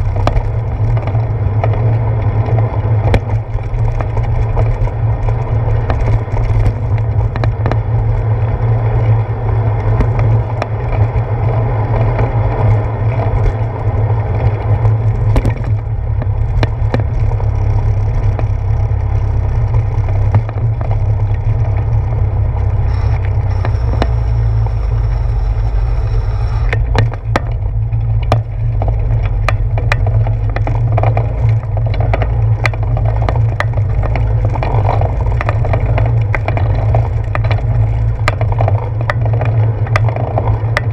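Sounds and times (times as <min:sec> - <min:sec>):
bicycle knocks and rattles: 0:00.0 - 0:40.9
bicycle tyres rumbling on wet path: 0:00.0 - 0:40.9.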